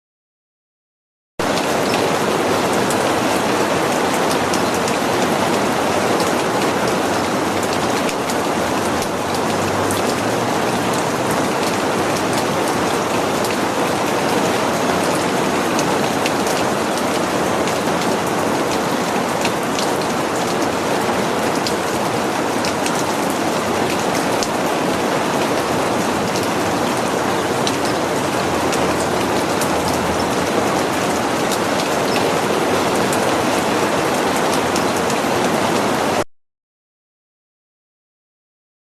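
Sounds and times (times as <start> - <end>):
rain hissing: 1.4 - 34.7.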